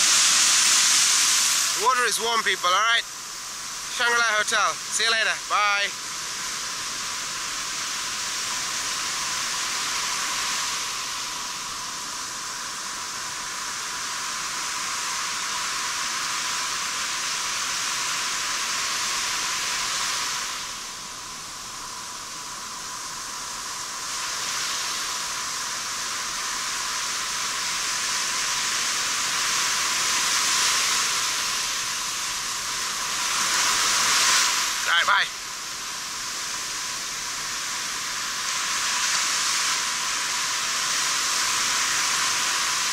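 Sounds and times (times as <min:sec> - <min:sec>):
surf washing on beach: 0:00.0 - 0:42.9.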